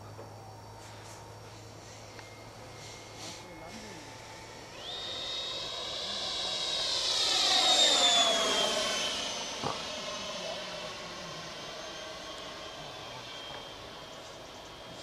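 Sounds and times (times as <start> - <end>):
model jet fan whining: 0.0 - 15.0.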